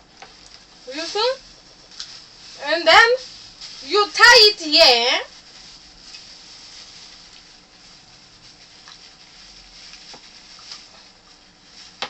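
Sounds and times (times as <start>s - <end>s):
plastic bag rustling: 0.0s - 12.0s
steady low hiss: 0.0s - 12.0s.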